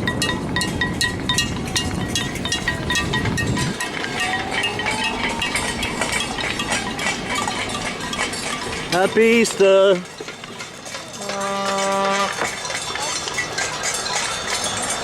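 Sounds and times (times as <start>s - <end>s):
rapid metallic clinking: 0.0s - 15.0s.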